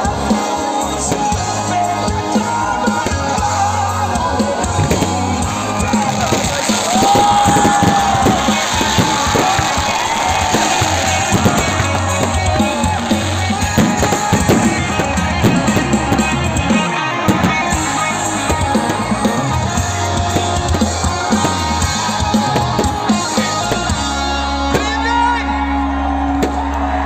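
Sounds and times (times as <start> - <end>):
drum kit: 0.0 - 27.0
live rock band playing: 0.0 - 27.0.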